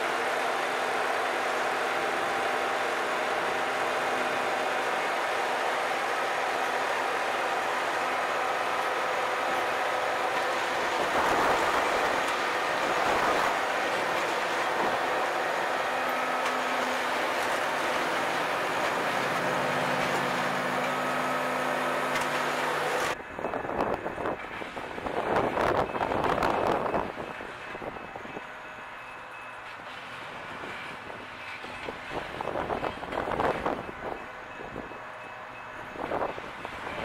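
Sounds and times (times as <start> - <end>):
diesel train running past: 0.0 - 37.0.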